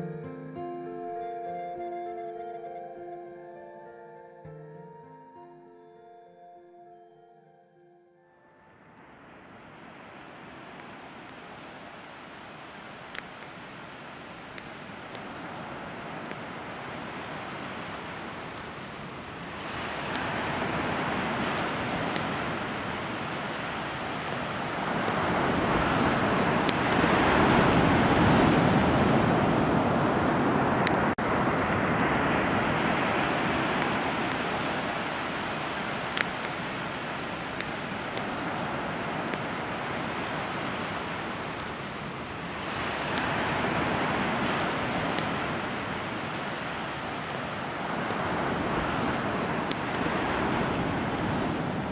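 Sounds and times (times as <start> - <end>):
wind: 8.5 - 51.9
rushing water: 9.1 - 51.9.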